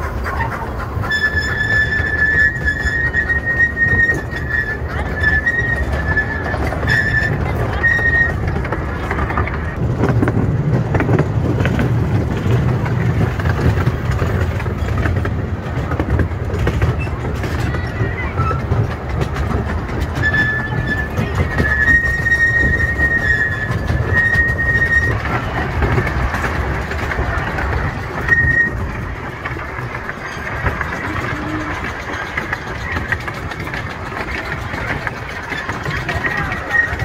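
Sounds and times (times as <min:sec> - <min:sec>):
high wheel squeal: 0:00.0 - 0:09.8, 0:16.5 - 0:19.3, 0:20.0 - 0:37.0
clicks over rail joints: 0:00.0 - 0:37.0
train wheels rumbling: 0:00.0 - 0:37.0.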